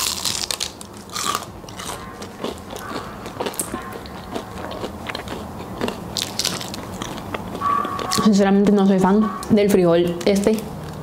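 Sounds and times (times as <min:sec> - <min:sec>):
pastry crust crunching while chewing: 0:00.0 - 0:09.0.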